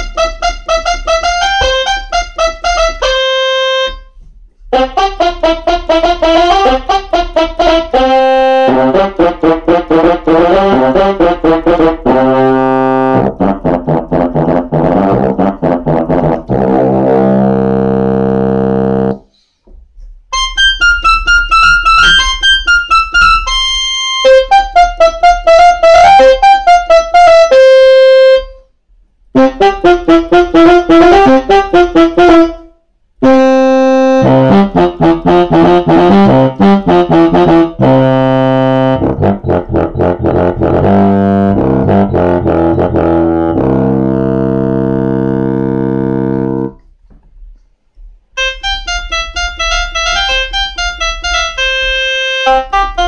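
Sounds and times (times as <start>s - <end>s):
electronic keyboard melody and chords: 0.0s - 19.3s, 20.3s - 28.7s, 29.4s - 47.6s, 48.4s - 53.0s.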